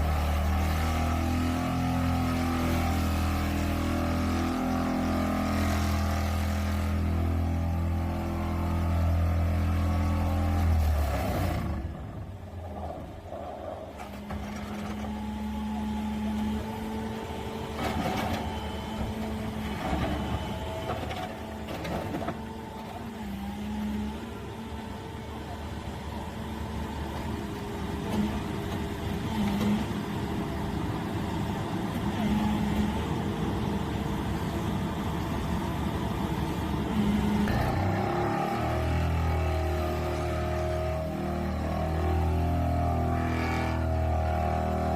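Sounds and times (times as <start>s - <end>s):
excavator diesel engine drone: 0.0s - 44.9s.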